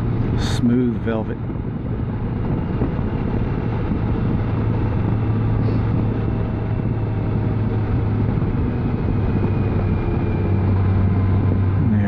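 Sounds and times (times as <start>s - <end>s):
motorcycle engine hum: 0.0s - 12.0s
wind and road noise: 0.0s - 12.0s.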